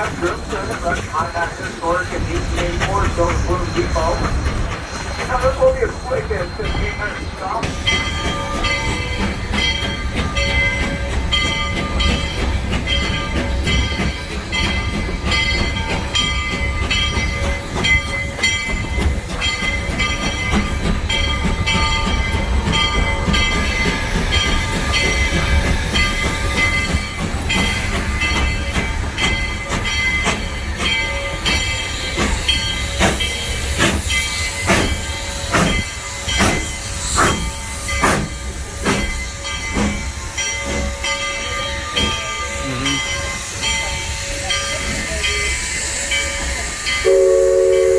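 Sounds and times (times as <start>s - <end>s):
steam train clattering on track: 0.0s - 47.9s.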